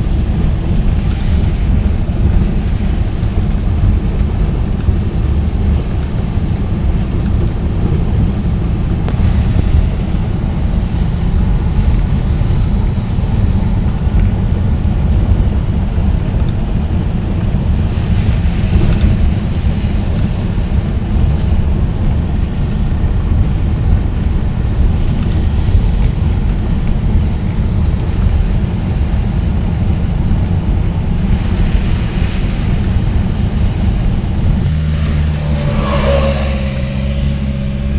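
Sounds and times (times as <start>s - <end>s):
vehicle rumbling: 0.0s - 37.9s
wind noise on microphone: 0.0s - 37.9s.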